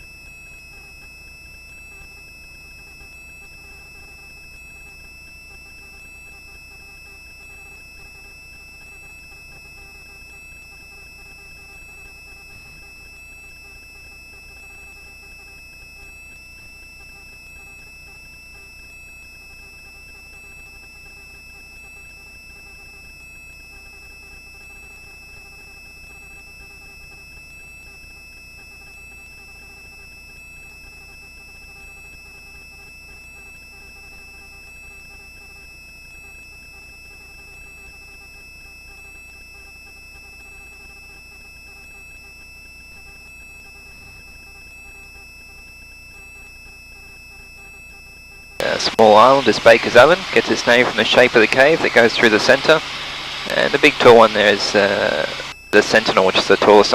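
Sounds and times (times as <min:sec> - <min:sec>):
high-pitched whines: 0:00.0 - 0:56.9.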